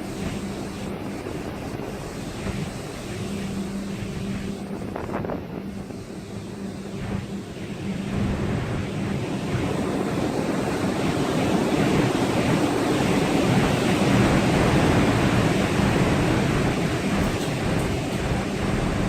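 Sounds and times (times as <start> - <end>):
rough sea rushing: 0.0 - 19.0
storm wind: 0.0 - 19.0.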